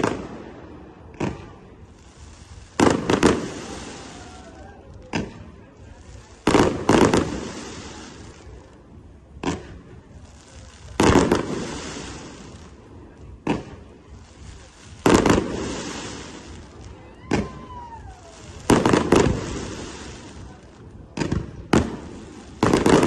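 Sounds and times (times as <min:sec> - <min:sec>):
firework bangs: 0:00.0 - 0:23.0
firework crackle: 0:00.0 - 0:23.0.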